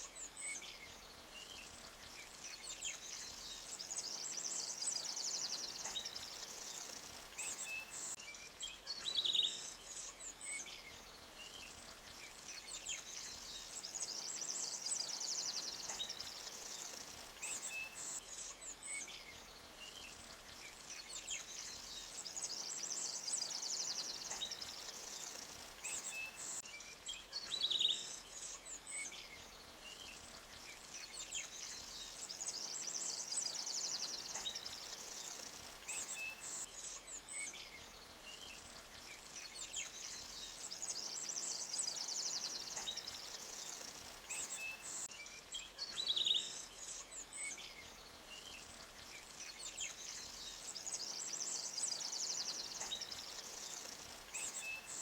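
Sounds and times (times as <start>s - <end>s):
birds chirping and twittering: 0.0s - 8.2s, 9.0s - 55.0s
running stream water: 0.0s - 8.2s, 10.4s - 26.6s, 28.6s - 45.1s, 46.6s - 55.0s.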